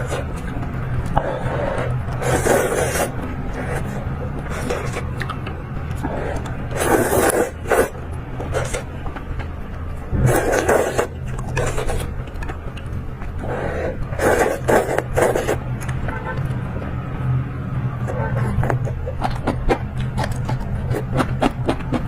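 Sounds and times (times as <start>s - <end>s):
close-miked eating sounds: 0.0s - 22.0s
steady low hum: 0.0s - 22.0s.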